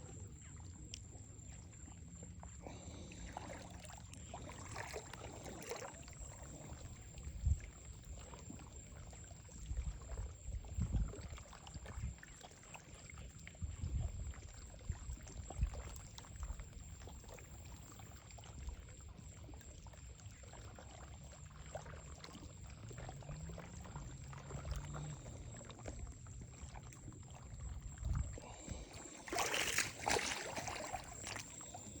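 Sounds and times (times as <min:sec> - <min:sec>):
water lapping and trickling: 0:00.0 - 0:32.0.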